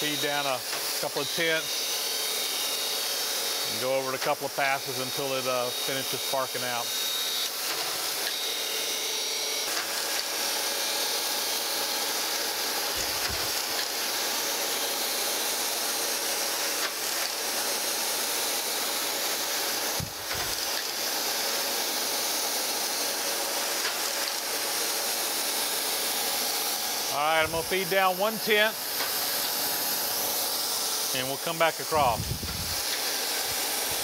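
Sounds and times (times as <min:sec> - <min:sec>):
grinding wheel hissing on metal: 0:00.0 - 0:34.0.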